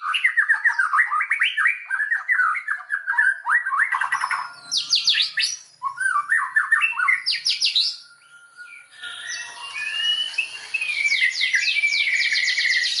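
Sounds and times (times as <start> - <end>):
bird singing whistled song: 0.0 - 13.0.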